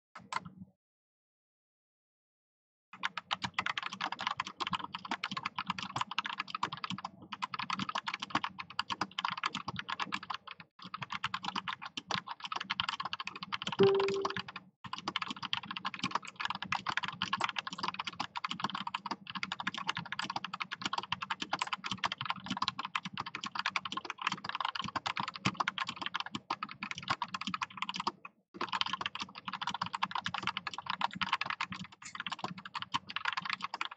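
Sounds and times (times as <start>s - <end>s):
mechanical keyboard typing: 3.0s - 33.9s.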